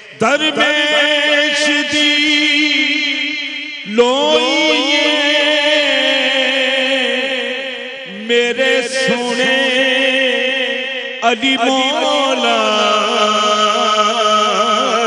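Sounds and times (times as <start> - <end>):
man singing long wavering notes: 0.0 - 15.0.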